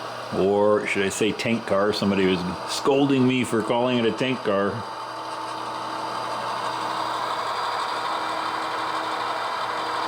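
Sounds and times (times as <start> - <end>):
model train mechanical hum: 0.0 - 10.0.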